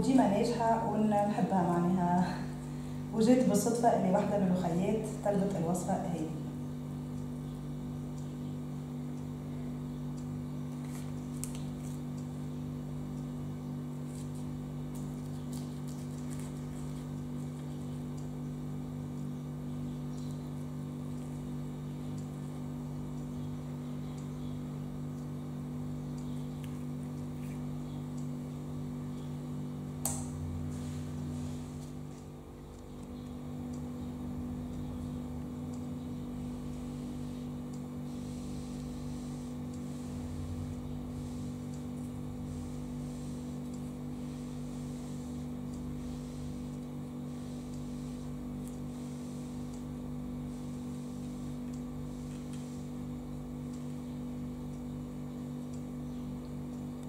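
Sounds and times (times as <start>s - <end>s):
low hum: 0.0s - 54.5s.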